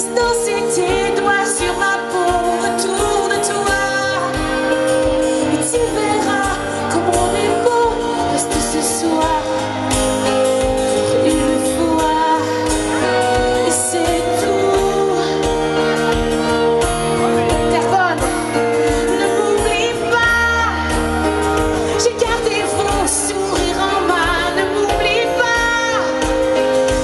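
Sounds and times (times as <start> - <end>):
female singer vocals: 0.0 - 27.0
live rock band playing: 0.0 - 27.0.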